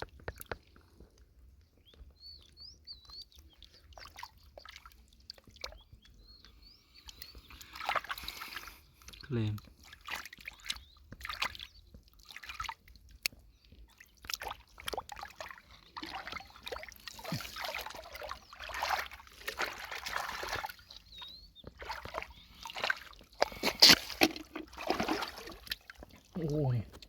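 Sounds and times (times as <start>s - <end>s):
water sloshing and trickling: 0.0s - 27.0s.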